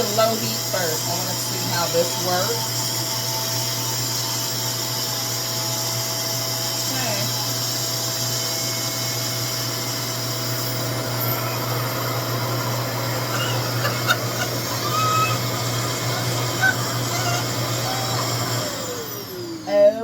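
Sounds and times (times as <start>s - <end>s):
hair dryer motor running: 0.0s - 20.0s
motor winding down whine: 0.0s - 20.0s.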